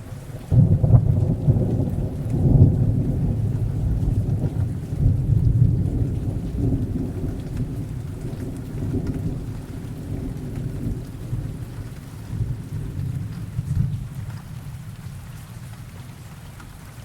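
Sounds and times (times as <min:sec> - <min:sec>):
thunder rumbling: 0:00.0 - 0:16.3
rain falling: 0:00.0 - 0:17.0.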